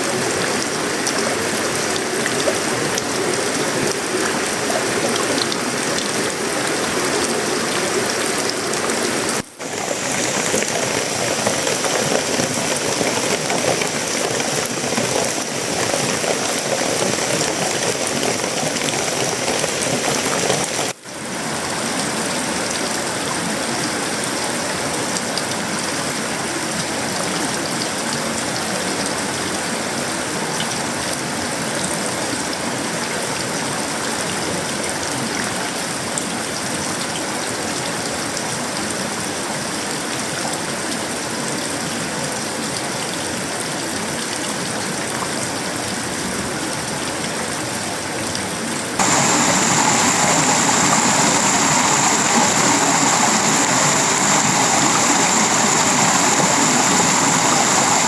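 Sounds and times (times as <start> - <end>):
heavy rain on a metal roof: 0.0 - 58.0.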